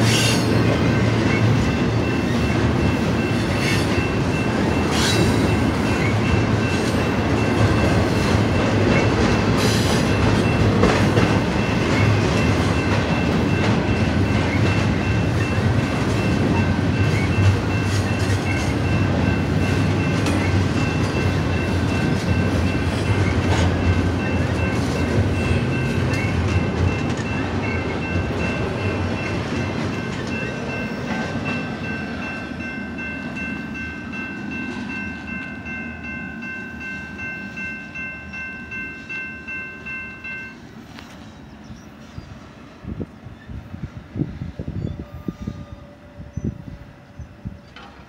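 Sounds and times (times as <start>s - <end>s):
train wheels rumbling and clacking: 0.0s - 45.7s, 46.3s - 48.0s
high-pitched multi-tone ringing: 0.5s - 40.7s.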